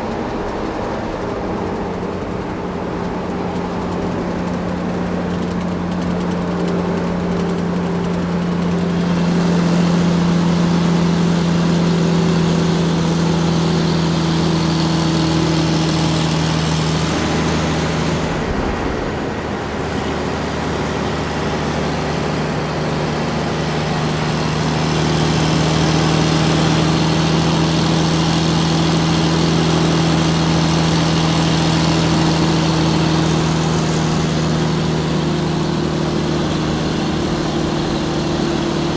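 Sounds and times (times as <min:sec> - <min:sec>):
truck engine drone: 0:00.0 - 0:38.9.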